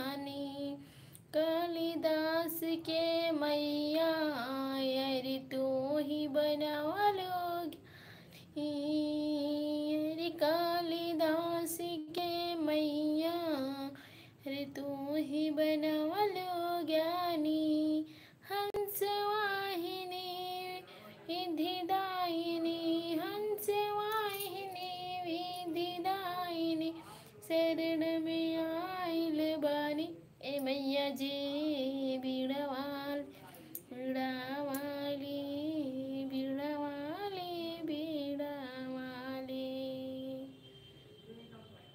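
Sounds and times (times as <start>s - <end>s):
woman singing: 0.0s - 7.8s, 8.4s - 40.6s.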